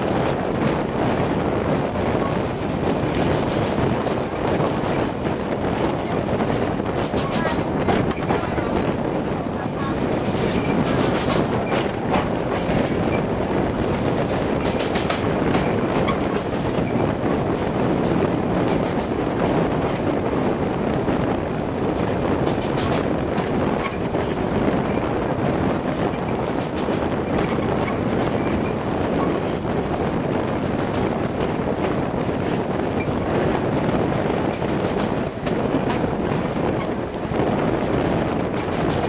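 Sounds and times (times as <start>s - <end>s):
wheels rumbling on rails: 0.0s - 39.0s
wheels clicking over rail joints: 2.2s - 8.9s, 9.6s - 20.8s, 21.5s - 39.0s.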